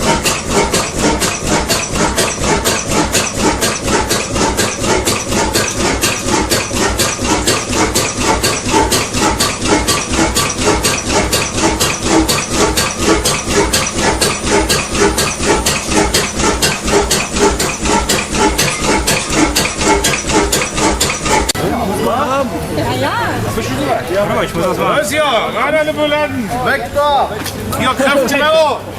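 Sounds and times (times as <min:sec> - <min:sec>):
diesel engine running: 0:00.0 - 0:25.4.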